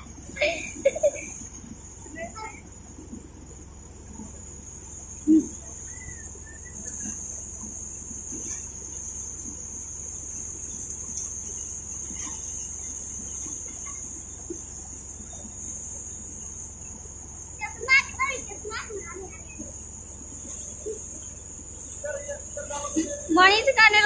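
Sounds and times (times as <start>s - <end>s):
thresher whining and humming: 0.0s - 24.0s.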